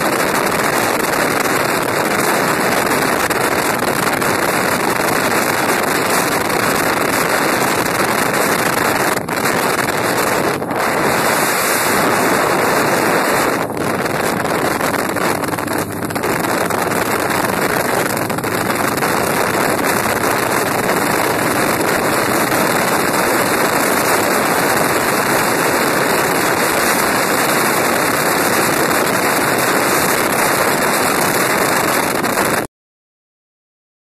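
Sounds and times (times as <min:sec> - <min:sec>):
wind rushing over microphone: 0:00.0 - 0:32.7.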